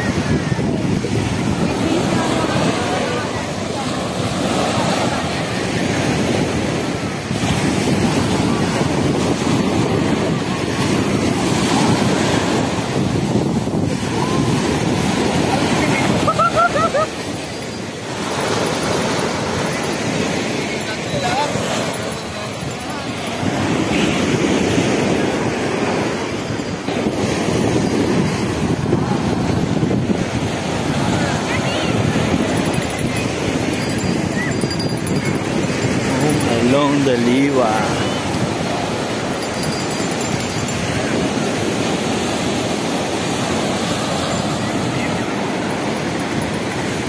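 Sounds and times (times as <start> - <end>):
waves washing up shore: 0.0 - 47.0
wind rumbling on microphone: 0.0 - 47.0.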